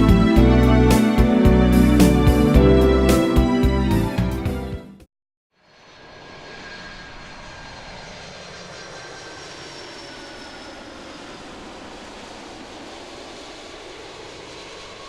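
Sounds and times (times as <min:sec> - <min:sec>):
jet engines rushing: 0:00.0 - 0:04.4, 0:05.8 - 0:15.0.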